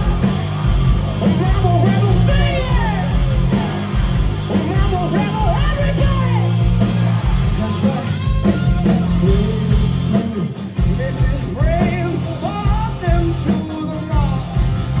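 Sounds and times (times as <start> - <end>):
bass guitar: 0.0 - 15.0
drums: 0.0 - 15.0
electric guitar: 0.0 - 15.0
person singing: 1.2 - 14.5.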